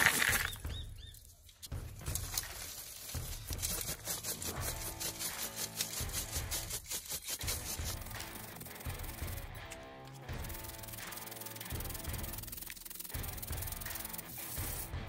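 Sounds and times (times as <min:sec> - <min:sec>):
charcoal rattling in metal sieve: 0:00.0 - 0:00.6, 0:02.0 - 0:09.4, 0:10.4 - 0:15.0.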